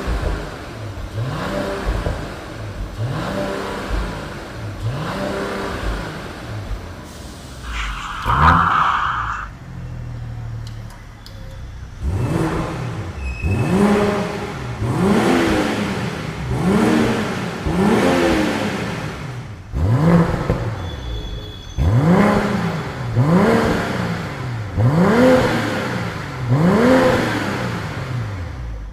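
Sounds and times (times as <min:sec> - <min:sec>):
car engine revving: 0:00.0 - 0:10.8, 0:11.9 - 0:20.8, 0:21.8 - 0:28.8.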